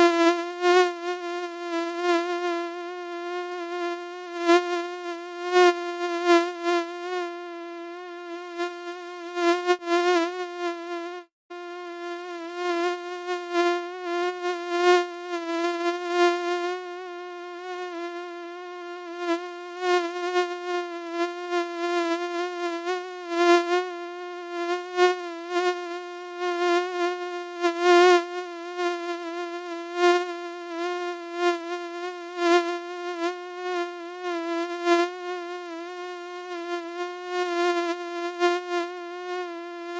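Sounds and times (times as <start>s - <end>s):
mosquito wing buzz: 0.0s - 39.9s.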